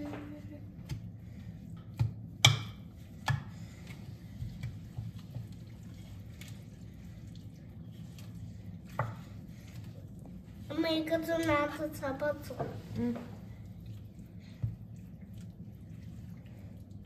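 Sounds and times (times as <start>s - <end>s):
spoon stirring batter: 0.7s - 17.0s.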